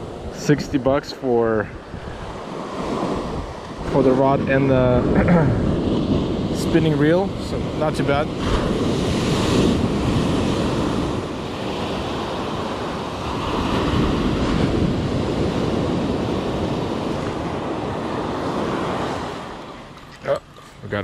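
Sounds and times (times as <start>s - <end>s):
ocean surf breaking: 0.0s - 21.0s
wind rumbling on microphone: 0.0s - 21.0s.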